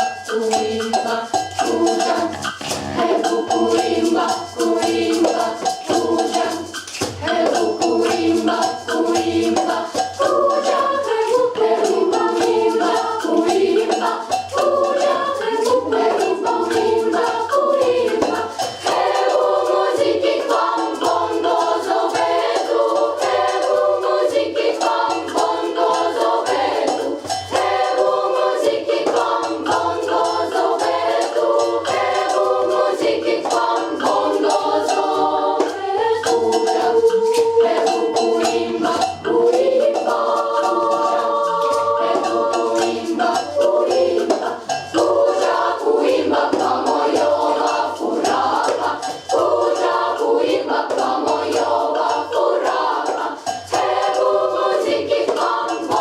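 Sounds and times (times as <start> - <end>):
children's choir singing: 0.0 - 56.0
light hand percussion: 0.0 - 56.0.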